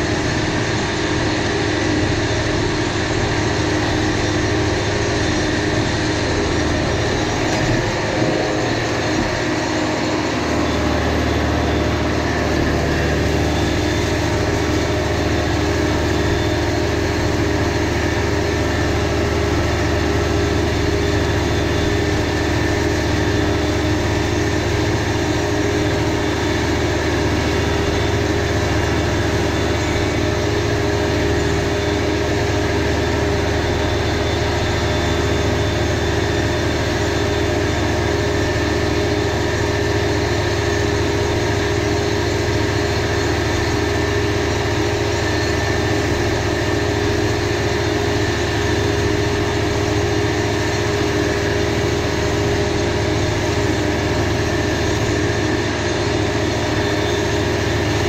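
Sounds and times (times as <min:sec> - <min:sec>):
disc mower mowing grass: 0:00.0 - 0:58.0
tractor diesel engine running: 0:00.0 - 0:58.0.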